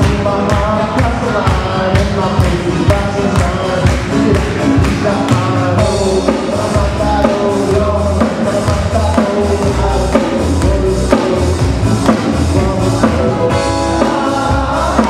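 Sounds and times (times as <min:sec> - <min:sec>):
bass line: 0:00.0 - 0:15.0
drum kit beat: 0:00.0 - 0:15.0
live band music: 0:00.0 - 0:15.0.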